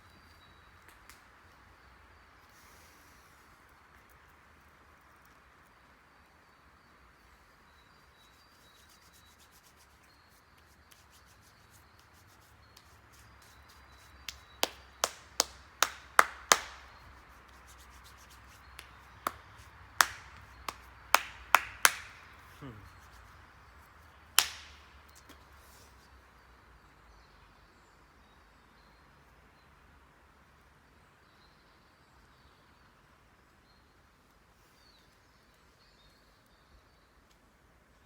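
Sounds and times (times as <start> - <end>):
faint steady hiss: 0.0 - 38.0.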